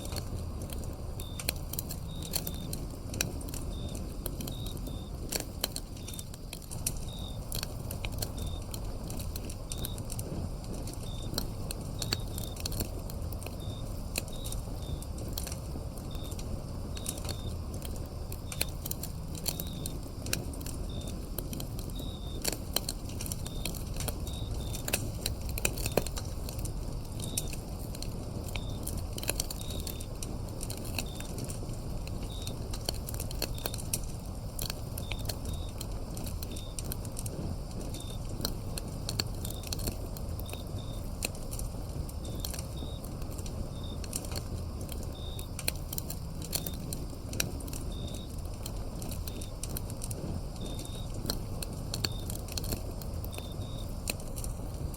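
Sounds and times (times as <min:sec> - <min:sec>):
crickets chirping: 0:00.0 - 0:54.9
wood fire crackling: 0:00.0 - 0:54.9.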